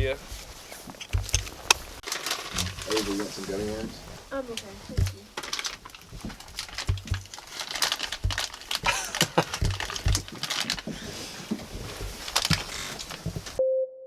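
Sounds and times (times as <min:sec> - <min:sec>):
low thumps: 0:00.0 - 0:10.9, 0:11.5 - 0:13.6
rustling and crinkling: 0:00.0 - 0:13.6.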